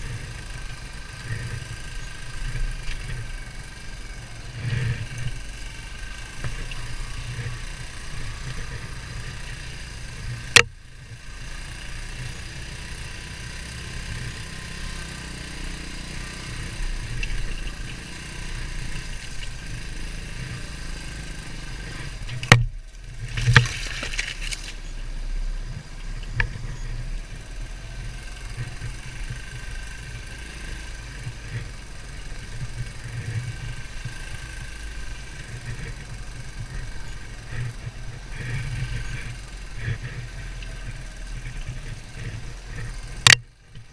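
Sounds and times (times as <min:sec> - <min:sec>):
dirt bike engine idling: 0:00.0 - 0:43.9.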